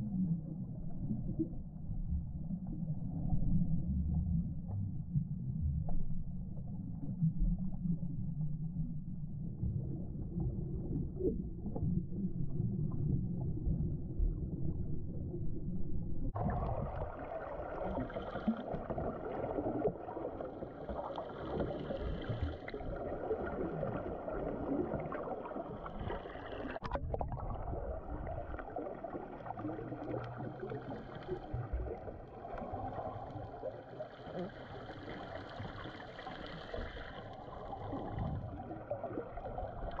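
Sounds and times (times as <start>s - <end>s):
underwater churning water and bubbles: 0.0s - 40.0s.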